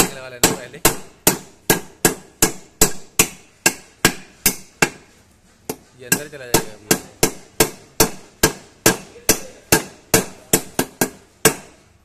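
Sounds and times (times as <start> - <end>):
hammer striking metal: 0.0 - 5.0, 5.7 - 11.8.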